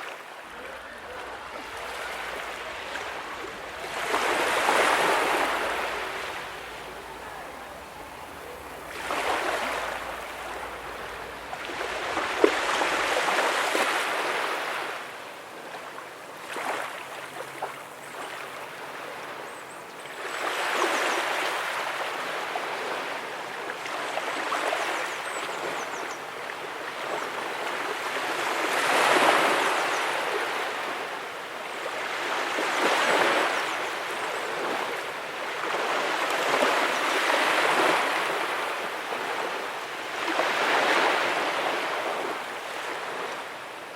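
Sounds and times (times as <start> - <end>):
small waves breaking on beach: 0.0 - 43.9.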